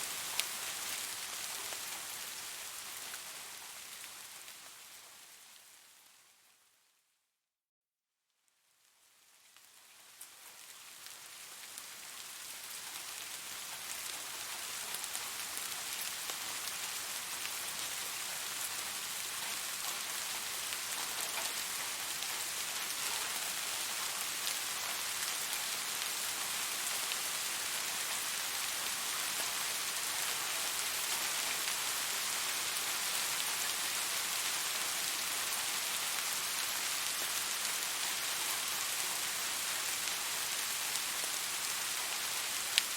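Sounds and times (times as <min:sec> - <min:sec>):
rain pattering on a surface: 0:00.0 - 0:07.0, 0:08.6 - 0:42.9.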